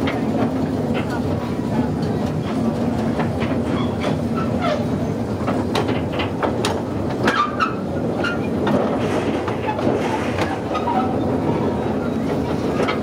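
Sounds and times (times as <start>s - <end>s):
train rolling on rails: 0.0s - 13.0s
wheels clacking on track: 0.0s - 13.0s.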